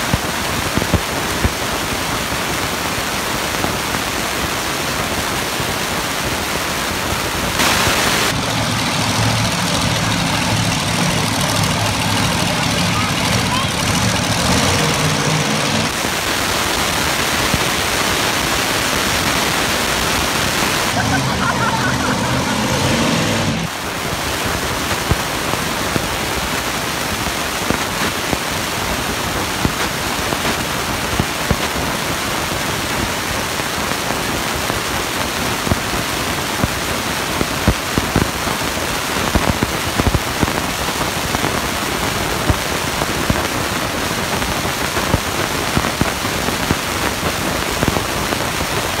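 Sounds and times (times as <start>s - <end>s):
engine crackling loudly: 0.0s - 49.0s.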